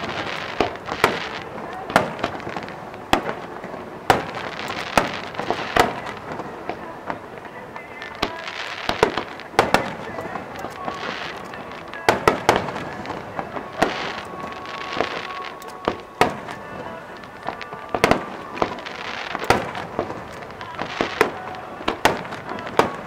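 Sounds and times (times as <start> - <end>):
firework shells bursting: 0.0 - 23.0
hissing crackle of firework stars: 0.0 - 23.0.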